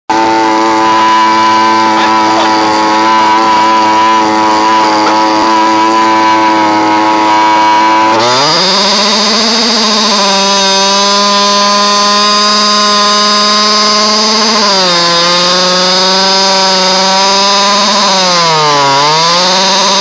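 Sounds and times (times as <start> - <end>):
two-stroke engine revving: 0.1 - 20.0.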